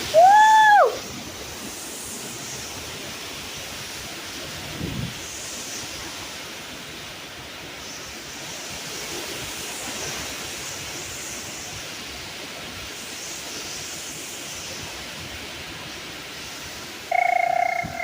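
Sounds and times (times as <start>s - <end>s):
hurricane wind rushing: 0.0s - 18.0s.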